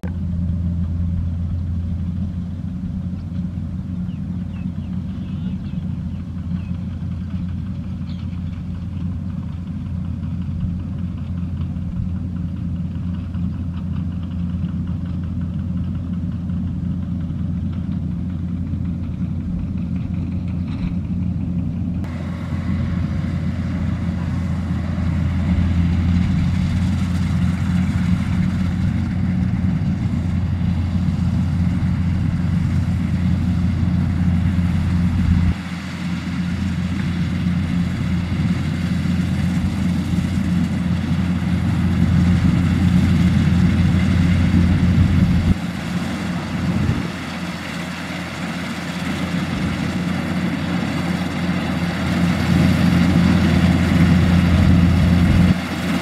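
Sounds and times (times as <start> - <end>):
combine harvester engine droning: 0.0 - 56.0.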